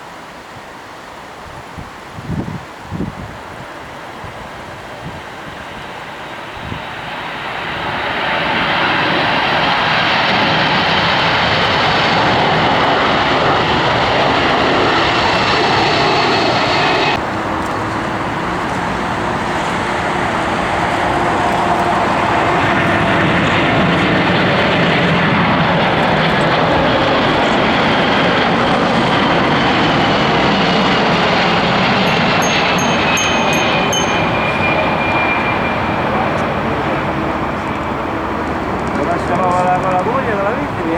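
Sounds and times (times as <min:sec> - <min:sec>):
aircraft engines passing: 0:03.6 - 0:40.9
high engine whine: 0:06.1 - 0:40.9.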